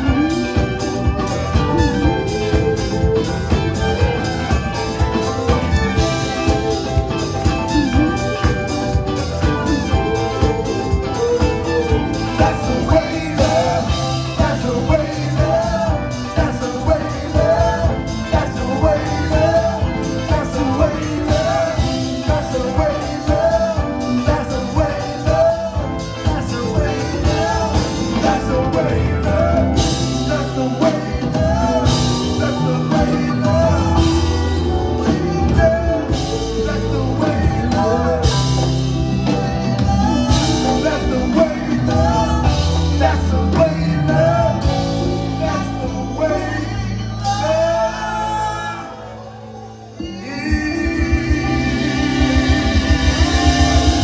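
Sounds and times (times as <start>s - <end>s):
live band playing soul-pop: 0.0s - 54.0s
person singing: 0.0s - 54.0s.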